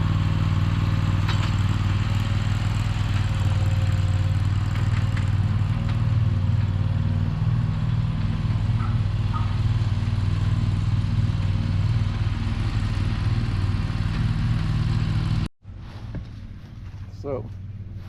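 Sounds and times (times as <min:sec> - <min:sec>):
skid steer engine idling: 0:00.0 - 0:15.5.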